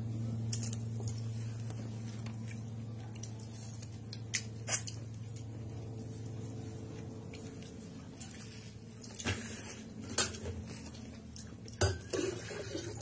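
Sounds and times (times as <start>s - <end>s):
steady low hum: 0.0s - 13.0s
person chewing wet fruit: 0.2s - 11.8s.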